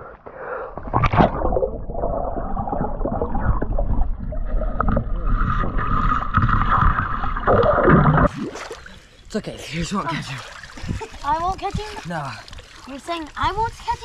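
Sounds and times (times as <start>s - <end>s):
water sloshing and gurgling: 0.0s - 14.0s.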